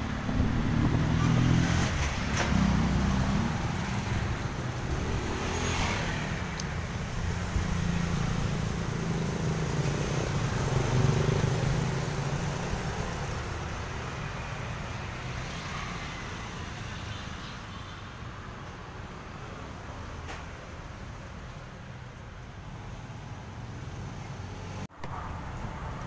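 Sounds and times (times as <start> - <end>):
street traffic: 0.0 - 26.0.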